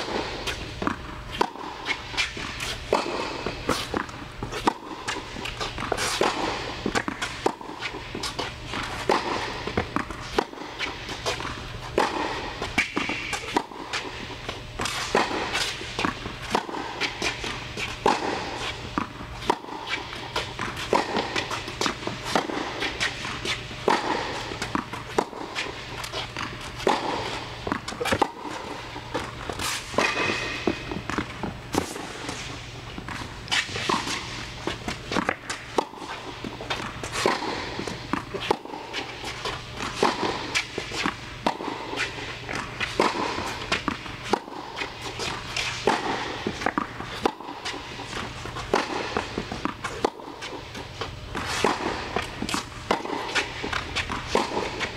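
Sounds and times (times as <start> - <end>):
racket hitting tennis ball: 0.0 - 54.9
steady low hum: 0.0 - 54.9.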